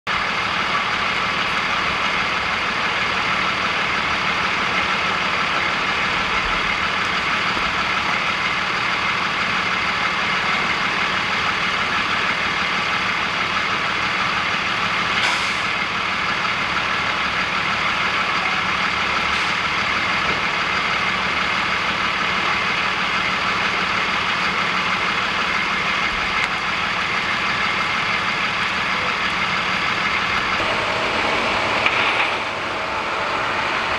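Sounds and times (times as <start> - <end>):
vehicle engine idling: 0.1 - 33.9.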